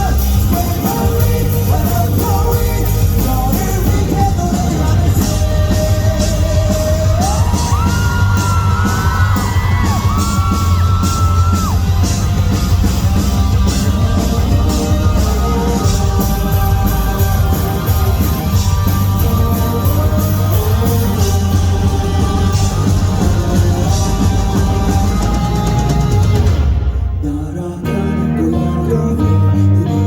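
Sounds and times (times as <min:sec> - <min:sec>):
high held bending melody: 0:00.0 - 0:27.2
rock band playing live: 0:00.0 - 0:30.0.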